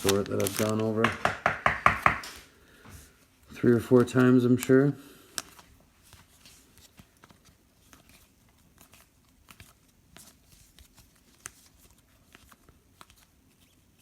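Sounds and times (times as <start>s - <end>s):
trading cards rustling: 0.0s - 1.3s, 3.1s - 14.0s.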